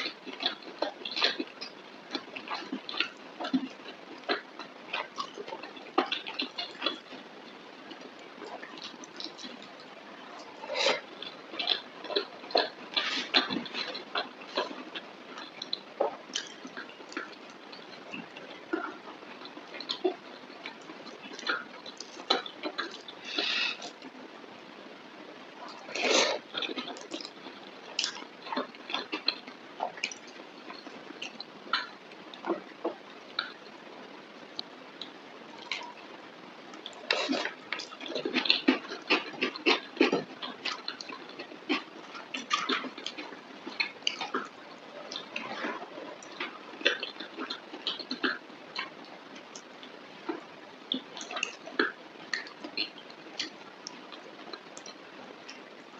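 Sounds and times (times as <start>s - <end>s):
person chewing and lip-smacking: 0.0s - 7.2s, 7.9s - 24.2s, 25.6s - 33.6s, 35.0s - 36.0s, 36.7s - 55.8s.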